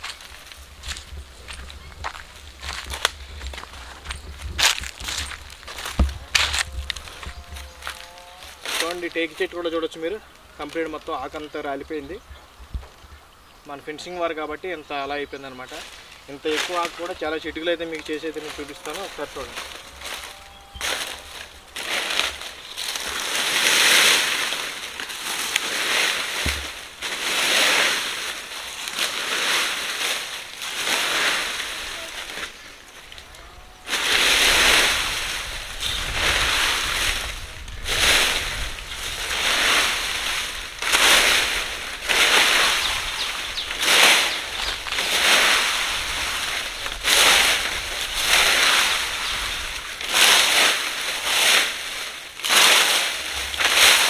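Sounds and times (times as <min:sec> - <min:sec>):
rake rustling dry leaves: 0:00.0 - 0:11.8, 0:15.1 - 0:54.0.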